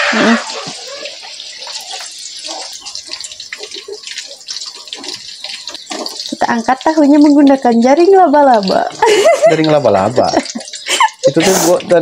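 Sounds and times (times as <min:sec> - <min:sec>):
tofu sizzling in hot oil: 0:00.0 - 0:12.0.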